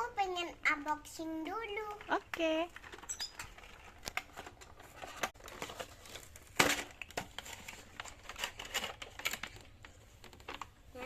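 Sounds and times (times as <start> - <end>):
plastic and cardboard rustling: 0.1 - 11.0.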